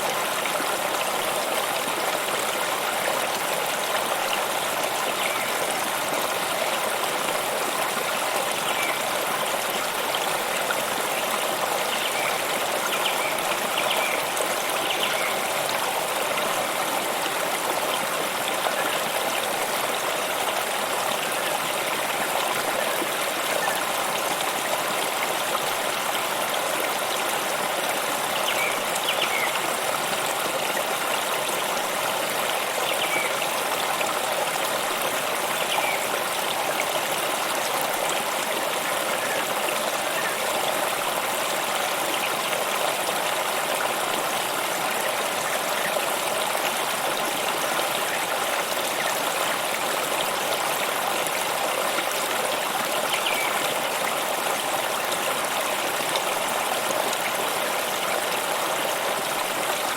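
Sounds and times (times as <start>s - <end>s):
stream rushing and trickling: 0.0s - 59.9s.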